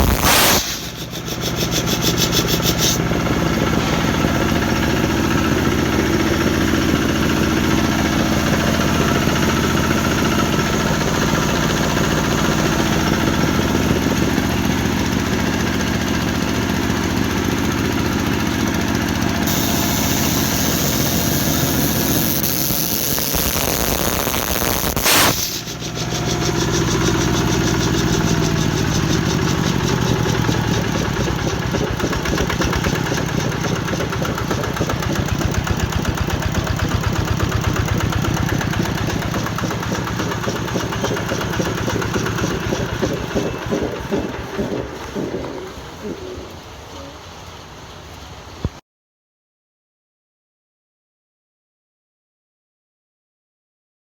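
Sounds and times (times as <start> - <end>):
diesel engine running compressor: 0.0 - 48.6.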